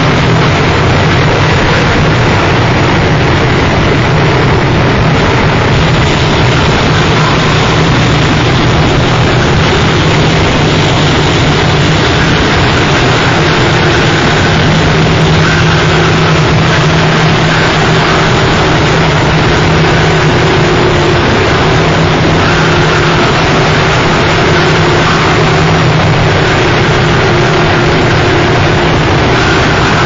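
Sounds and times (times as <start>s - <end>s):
harsh noise music: 0.0s - 30.0s
high drone: 0.0s - 30.0s
steady low hum: 0.0s - 30.0s.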